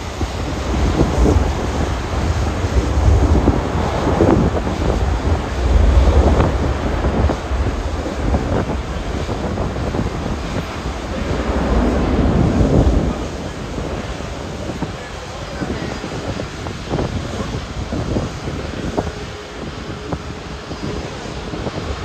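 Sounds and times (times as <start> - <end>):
jet engine roar: 0.0 - 22.0
wind buffeting microphone: 0.0 - 22.0.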